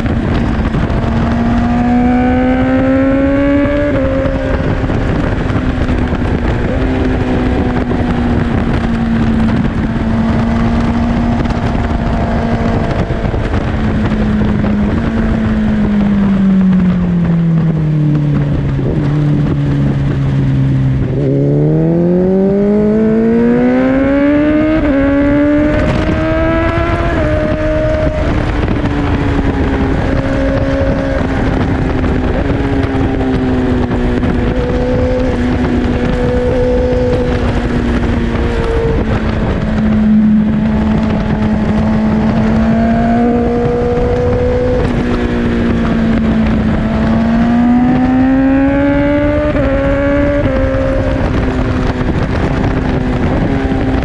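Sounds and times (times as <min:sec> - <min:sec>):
motorbike engine revving: 0:00.0 - 0:54.0
wind rush: 0:00.0 - 0:54.0.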